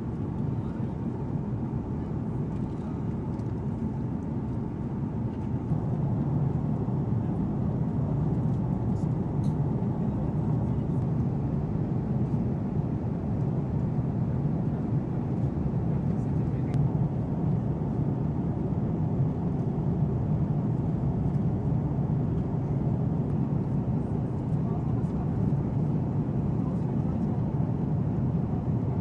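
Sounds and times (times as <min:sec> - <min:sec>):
jet aircraft rumble: 0:00.0 - 0:29.0.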